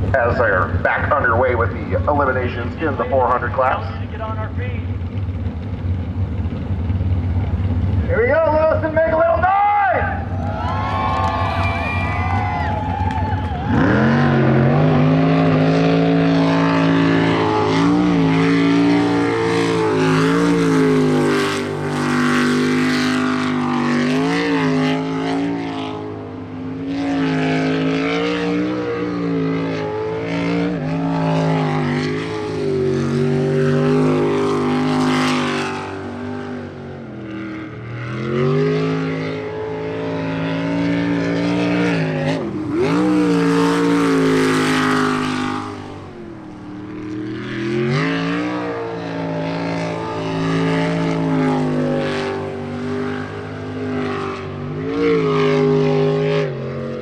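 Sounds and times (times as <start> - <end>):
boat engine running at high revs: 0.0 - 57.0.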